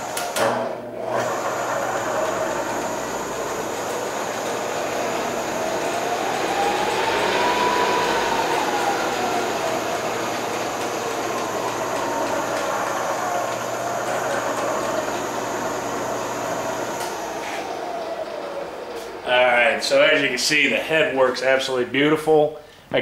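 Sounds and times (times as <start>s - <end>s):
milling machine spindle whine: 0.0s - 21.7s.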